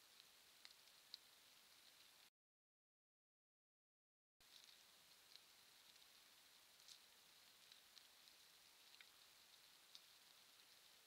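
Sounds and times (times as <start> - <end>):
faint steady hiss: 0.0 - 2.3, 4.4 - 11.0
faint ticks: 0.0 - 2.3, 4.4 - 11.0.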